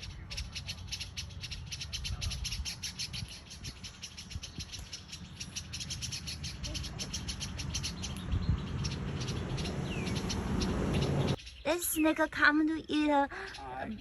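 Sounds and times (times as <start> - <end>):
songbirds alarm chirps: 0.0 - 14.0.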